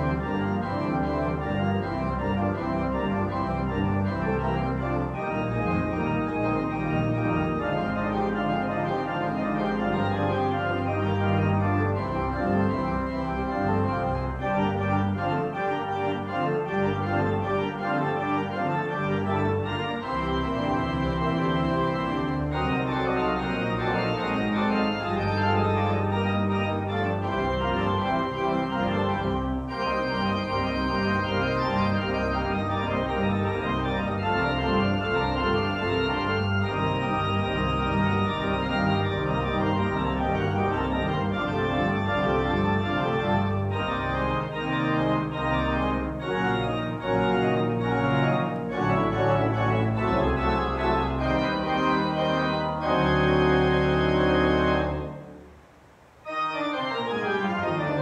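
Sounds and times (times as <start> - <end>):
organ music: 0.0 - 58.0.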